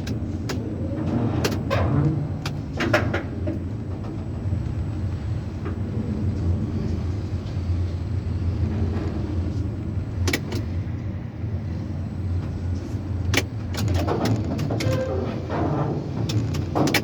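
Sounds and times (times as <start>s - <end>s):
tower crane machinery hum: 0.0s - 17.0s.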